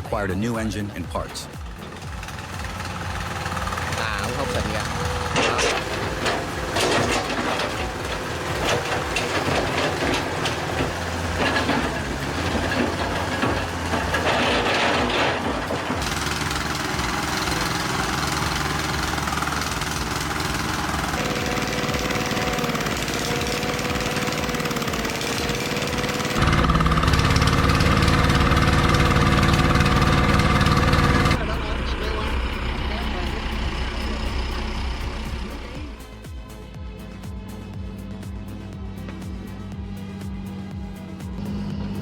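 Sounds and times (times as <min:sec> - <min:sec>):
heavy equipment engines running: 0:00.0 - 0:42.0.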